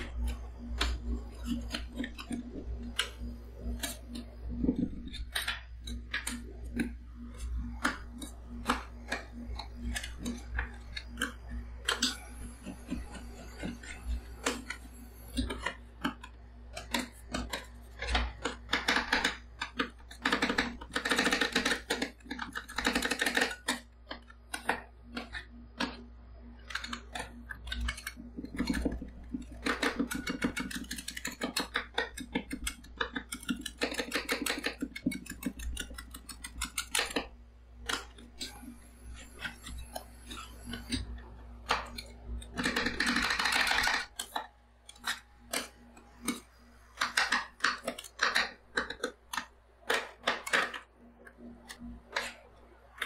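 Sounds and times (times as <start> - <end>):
spatulas chopping and scraping: 0.0 - 53.0.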